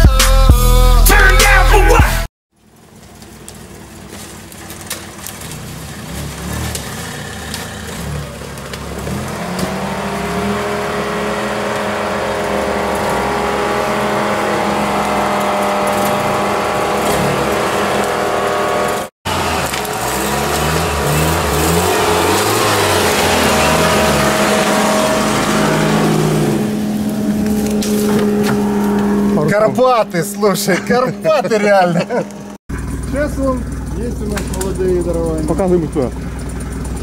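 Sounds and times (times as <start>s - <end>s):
off-road vehicle engine under load: 2.5s - 37.0s.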